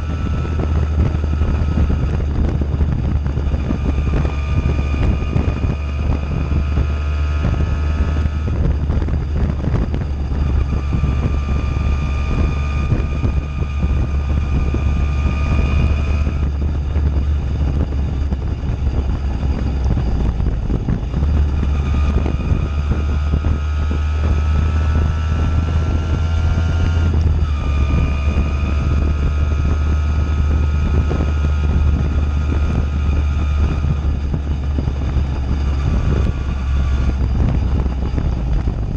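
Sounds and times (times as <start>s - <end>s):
moped engine running: 0.0s - 38.9s
wind on microphone: 0.0s - 38.9s.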